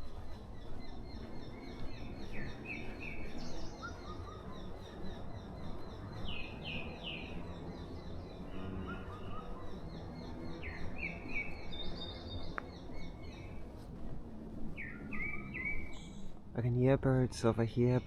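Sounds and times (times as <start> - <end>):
birds chirping: 0.0 - 18.0
distant trains and traffic rumble: 0.0 - 18.0.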